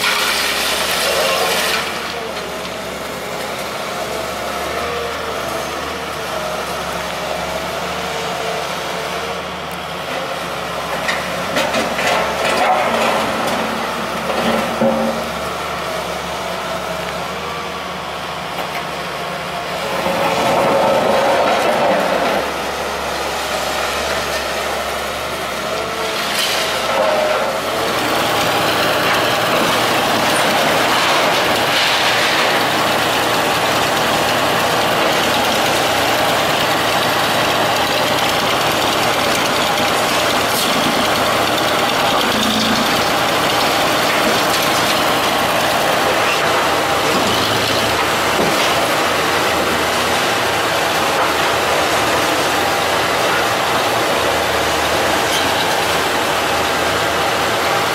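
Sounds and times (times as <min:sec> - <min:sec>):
diesel engines running: 0:00.0 - 0:57.9.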